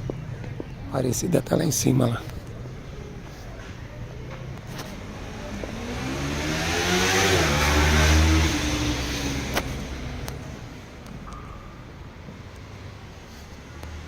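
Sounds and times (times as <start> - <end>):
vehicle driving past: 2.6 - 14.0.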